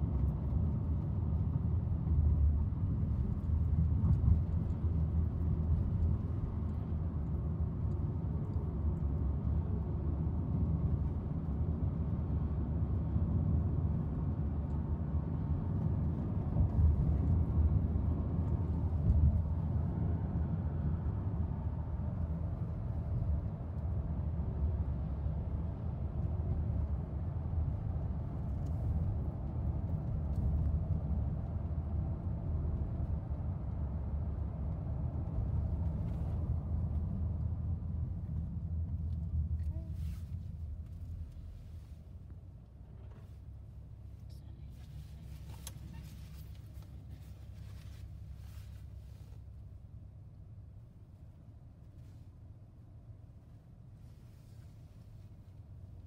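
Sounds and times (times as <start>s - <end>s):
road and engine rumble in car: 0.0s - 56.0s.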